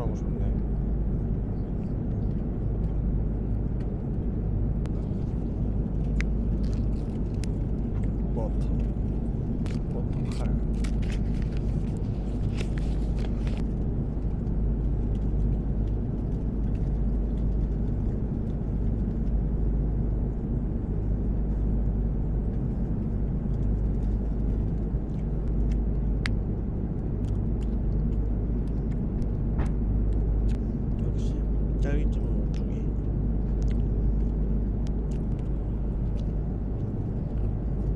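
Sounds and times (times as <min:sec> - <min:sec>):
airliner cabin drone: 0:00.0 - 0:37.9.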